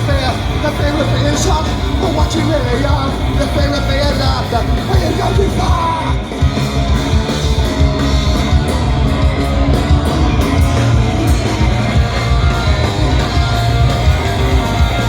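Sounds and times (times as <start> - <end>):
driving drums: 0.0 - 15.0
loud electric guitar: 0.0 - 15.0.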